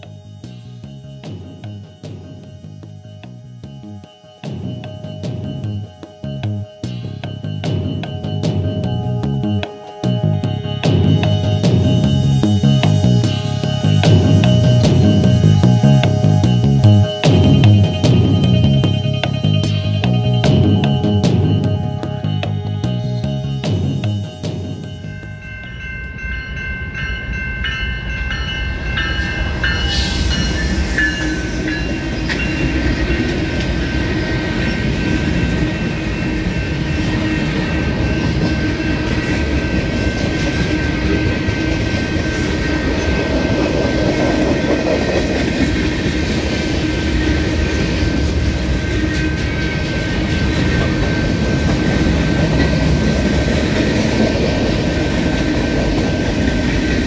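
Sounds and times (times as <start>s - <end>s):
diesel locomotives approaching: 0.0s - 57.0s.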